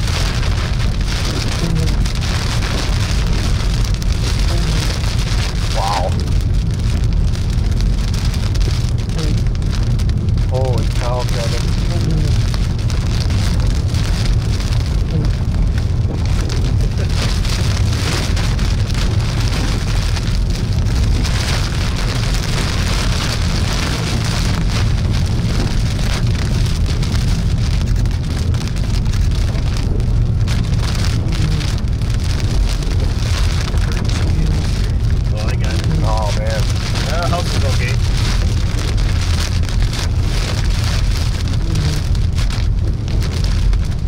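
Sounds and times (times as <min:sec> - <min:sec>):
heavy rain on car roof: 0:00.0 - 0:44.0
low rumble of road noise: 0:00.0 - 0:44.0
wind noise: 0:00.0 - 0:44.0.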